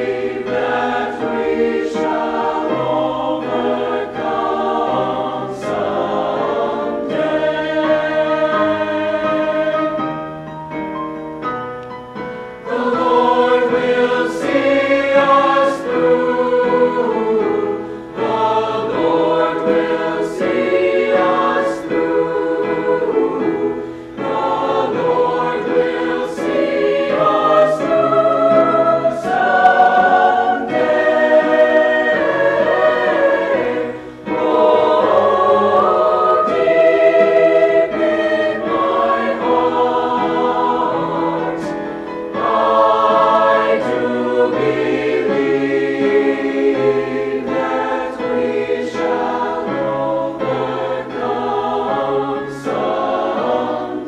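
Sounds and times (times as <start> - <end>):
choir singing: 0.0 - 10.5, 12.2 - 54.0
piano accompaniment: 0.0 - 54.0.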